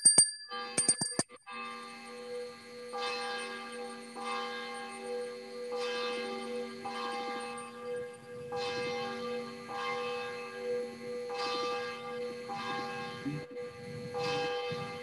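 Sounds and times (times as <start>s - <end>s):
church bell ringing: 1.5s - 15.0s.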